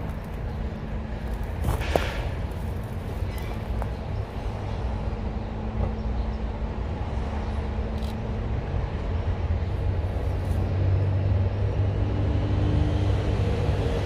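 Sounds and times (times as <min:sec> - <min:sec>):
electric train rumbling and humming: 0:00.0 - 0:14.0.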